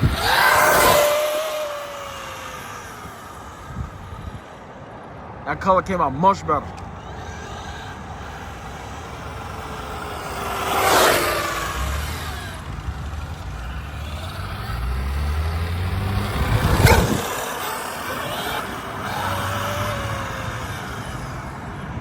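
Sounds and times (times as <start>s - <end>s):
vehicles passing by: 0.0s - 22.0s.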